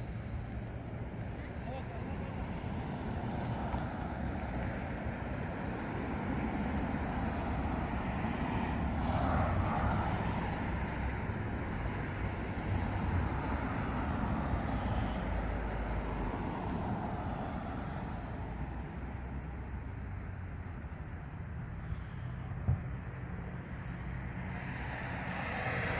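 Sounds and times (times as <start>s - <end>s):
vehicle engine rumble: 0.0s - 25.9s.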